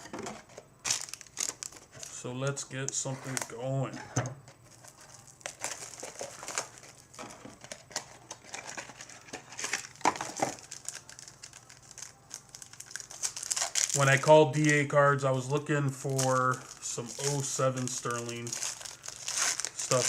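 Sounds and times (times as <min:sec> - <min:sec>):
wrapper crinkling and rustling: 0:00.8 - 0:02.3, 0:04.6 - 0:14.9, 0:15.5 - 0:20.0.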